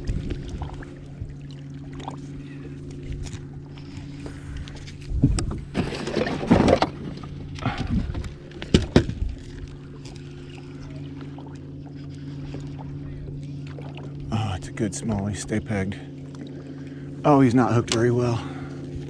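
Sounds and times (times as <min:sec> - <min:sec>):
trolling motor humming: 0:00.0 - 0:19.0.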